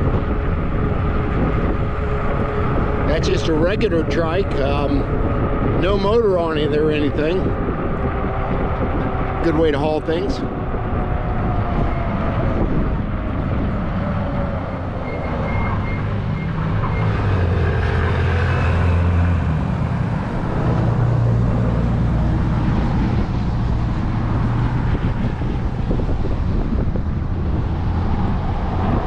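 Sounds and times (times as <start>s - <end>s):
motor vehicle passing: 0.0s - 29.0s
road noise from bike: 0.0s - 29.0s
wind rush: 0.0s - 29.0s.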